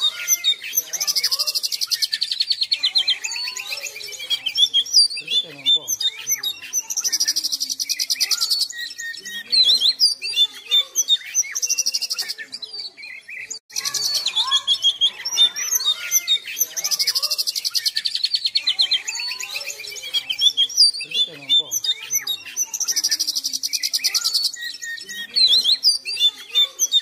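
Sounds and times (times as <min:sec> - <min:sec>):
bird singing whistled phrases: 0:00.0 - 0:27.0.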